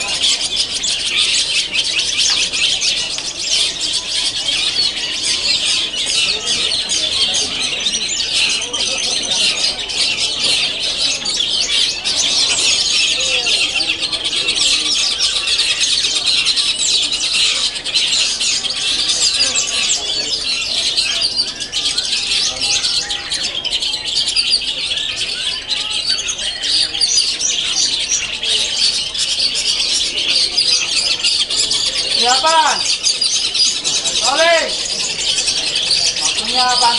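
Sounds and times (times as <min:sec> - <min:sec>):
chorus of shrikes singing: 0:00.0 - 0:36.9.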